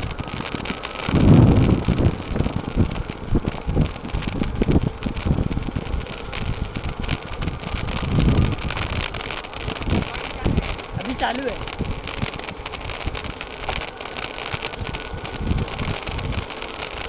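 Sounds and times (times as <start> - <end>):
road and traffic noise: 0.0 - 17.0
wind buffeting microphone: 0.0 - 17.0.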